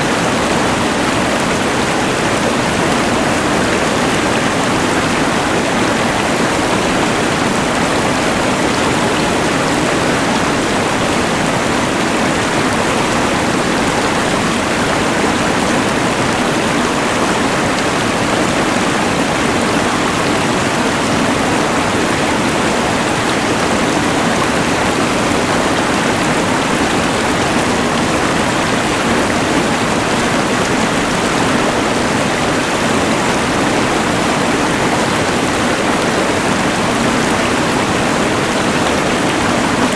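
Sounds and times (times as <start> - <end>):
rushing river: 0.0 - 39.9.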